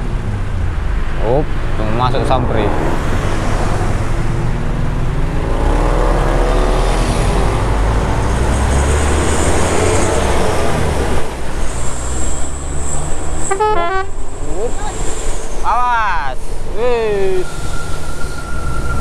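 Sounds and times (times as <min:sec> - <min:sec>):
bus engine pulling hard: 0:00.0 - 0:19.0
road noise: 0:00.0 - 0:19.0
wind noise: 0:00.0 - 0:19.0.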